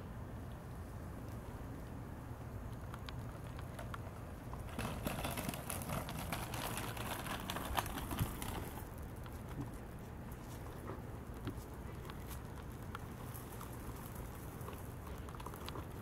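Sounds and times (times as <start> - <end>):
paws and small wheels clicking: 1.2 - 16.0.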